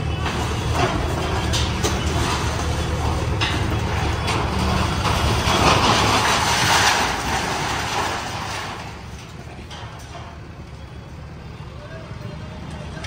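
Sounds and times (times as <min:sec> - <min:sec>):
concrete and scaffold collapsing: 0:00.0 - 0:10.6
diesel engines running: 0:00.0 - 0:13.0.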